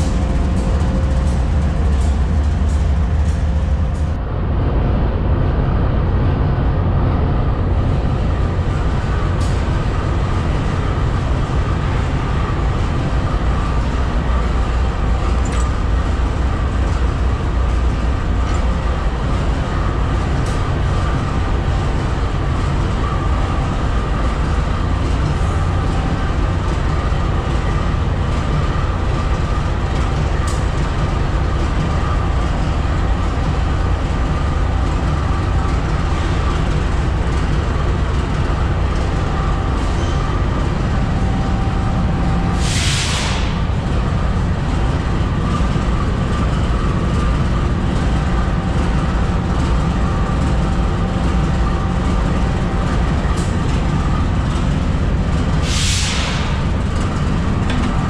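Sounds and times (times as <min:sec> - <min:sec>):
locomotive idling: 0:00.0 - 0:04.2, 0:07.5 - 0:58.0.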